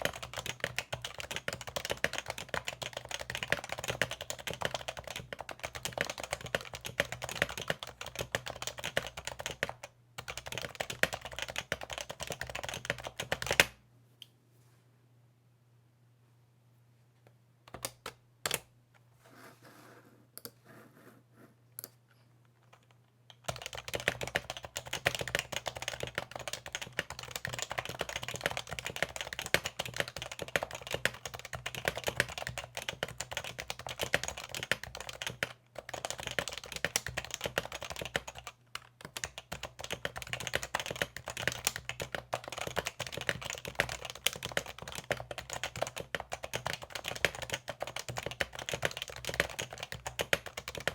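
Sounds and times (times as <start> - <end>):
keyboard typing: 0.0 - 13.7, 17.7 - 18.7, 22.6 - 50.9.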